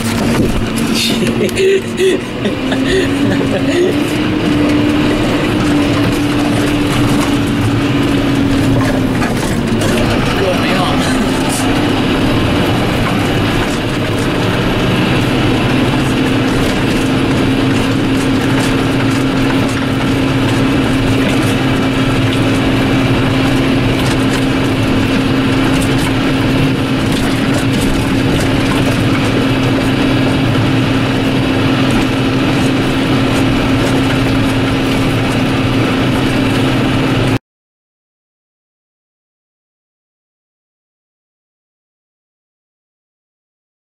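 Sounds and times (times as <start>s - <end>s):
tractor diesel engine droning: 0.0s - 37.4s.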